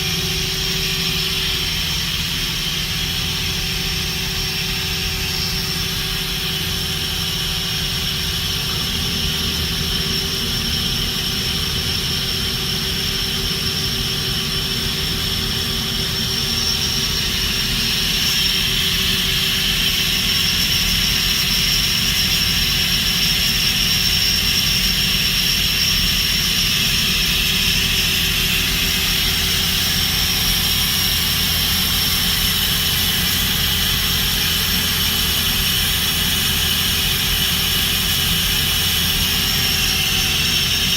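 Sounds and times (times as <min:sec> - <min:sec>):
machine hum with high whine: 0:00.0 - 0:40.9.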